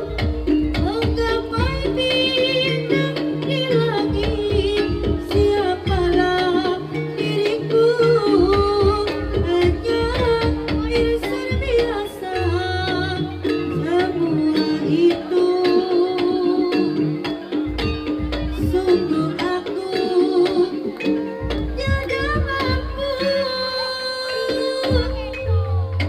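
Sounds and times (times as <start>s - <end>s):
bending melody with held notes: 0.0s - 26.0s
drums beating: 0.0s - 26.0s.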